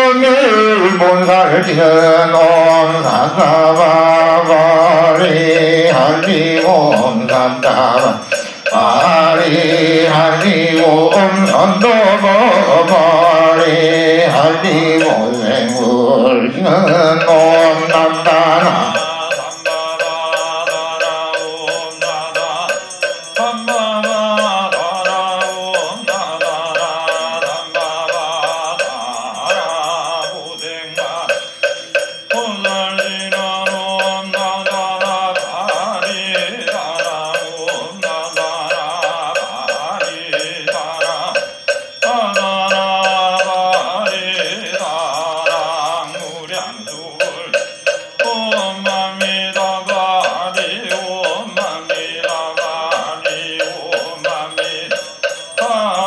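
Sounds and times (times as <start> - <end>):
fast steady jingling: 0.0 - 56.0
person chanting: 0.0 - 56.0.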